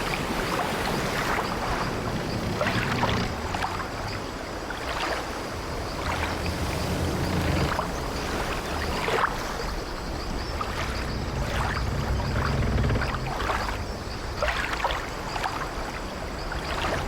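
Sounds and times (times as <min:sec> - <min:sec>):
waves washing against ship: 0:00.0 - 0:17.0
ship timbers creaking: 0:00.3 - 0:15.2.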